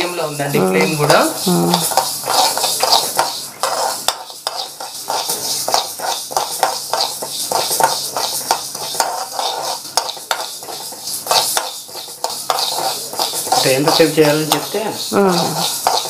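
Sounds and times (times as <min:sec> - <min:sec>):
metal spoon scraping pan: 0:00.0 - 0:16.0
seeds rattling in pan: 0:00.7 - 0:16.0.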